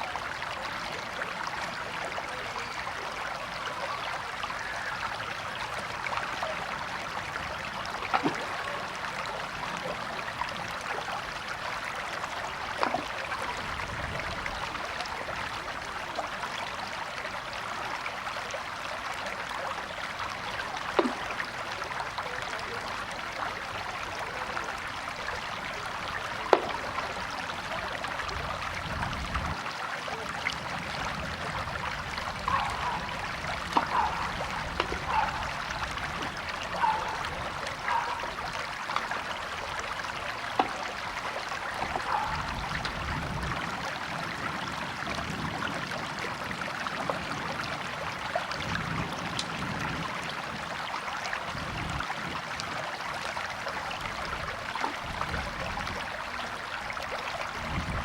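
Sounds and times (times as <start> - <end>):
river water rushing: 0.0 - 58.0
water splashing plinks: 0.0 - 58.0.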